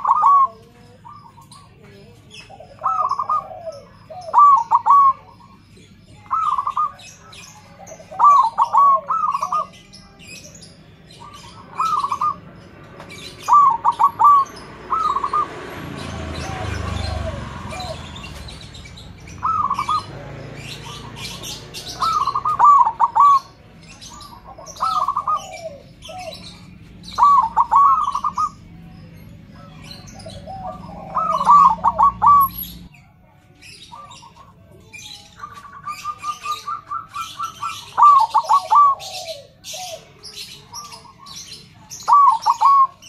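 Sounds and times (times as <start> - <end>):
dove cooing: 0.0 - 10.5, 11.1 - 29.0, 29.6 - 32.9, 35.4 - 43.0
small birds chirping: 0.0 - 43.0.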